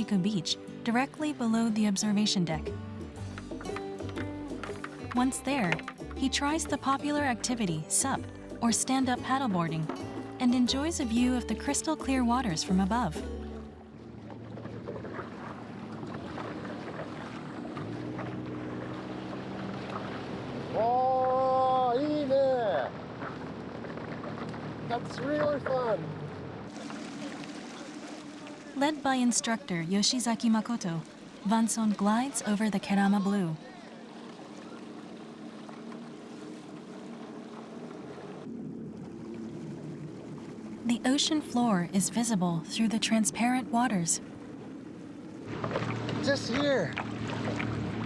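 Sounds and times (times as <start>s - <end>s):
water splashing around paddleboard: 3.0s - 10.6s, 12.4s - 21.8s, 22.7s - 41.4s, 44.2s - 48.0s.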